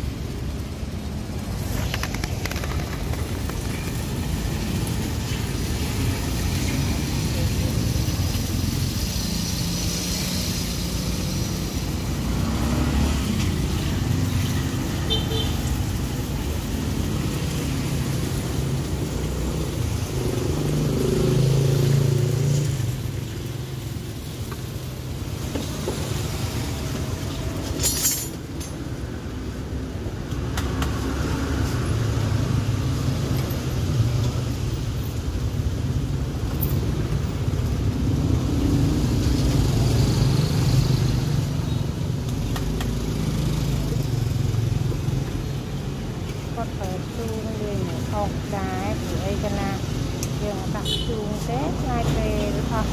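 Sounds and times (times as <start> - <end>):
steady low traffic rumble: 0.0 - 52.9
vehicles passing: 0.0 - 52.9.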